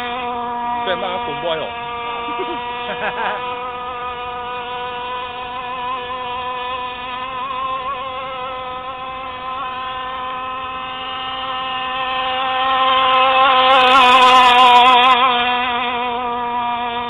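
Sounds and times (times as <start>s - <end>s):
boat engine high buzz: 0.0s - 17.0s.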